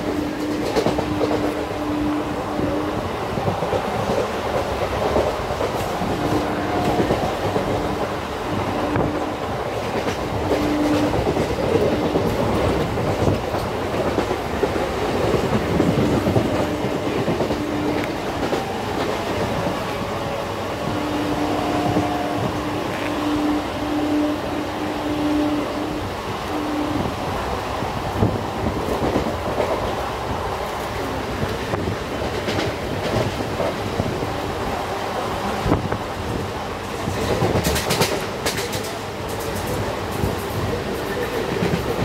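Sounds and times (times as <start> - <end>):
train wheel and track rumble: 0.0 - 42.0.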